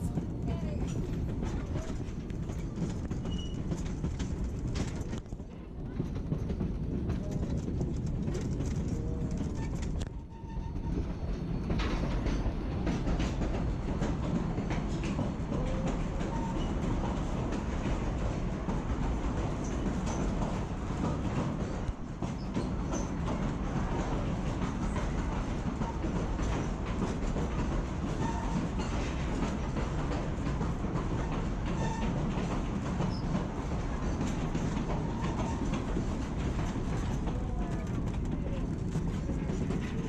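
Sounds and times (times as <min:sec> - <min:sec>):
train rumble: 0:00.0 - 0:40.0
wheels clicking on rails: 0:00.0 - 0:40.0.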